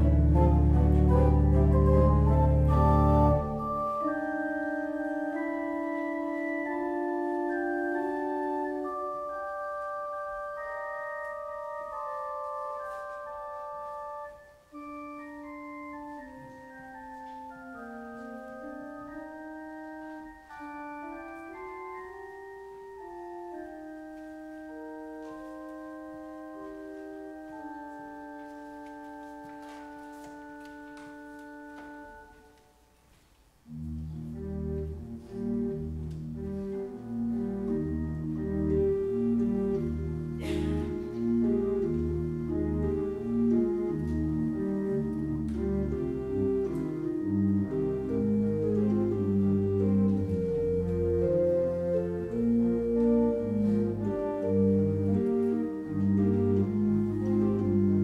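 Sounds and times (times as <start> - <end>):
church organ playing: 0.0 - 58.0.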